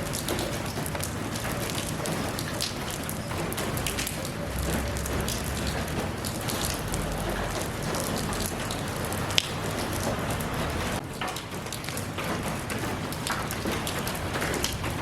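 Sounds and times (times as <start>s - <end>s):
raindrops ticking on a surface: 0.0s - 15.0s
steady rain falling: 0.0s - 15.0s.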